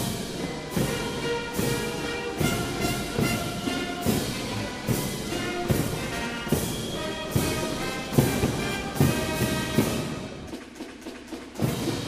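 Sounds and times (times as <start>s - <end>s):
brass band playing a march: 0.0s - 12.0s
steady drum beat: 0.0s - 12.0s.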